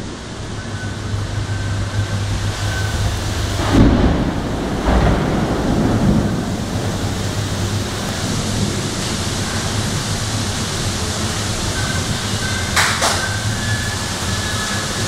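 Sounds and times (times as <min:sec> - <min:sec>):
storm rain: 0:00.0 - 0:15.0
wind: 0:00.0 - 0:15.0.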